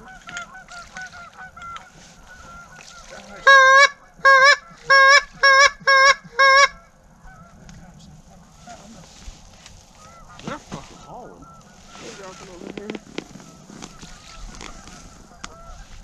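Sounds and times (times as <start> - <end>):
goose call honks: 0.0 - 7.6, 10.0 - 16.0.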